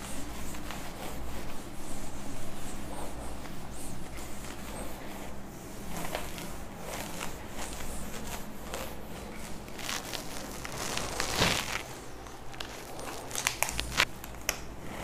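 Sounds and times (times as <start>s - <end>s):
duster scraping whiteboard: 0.0s - 14.1s.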